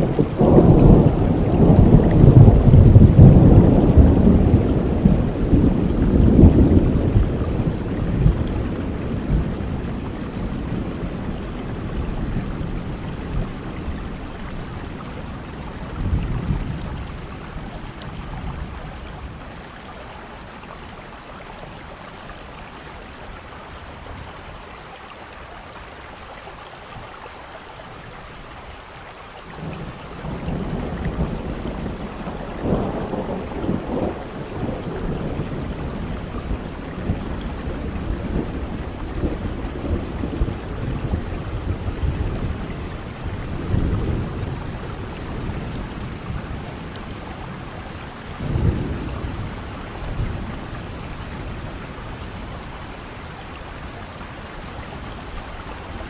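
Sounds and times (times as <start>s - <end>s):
rolling thunder: 0.0s - 19.8s, 29.6s - 56.0s
steady rain hiss: 0.0s - 56.0s.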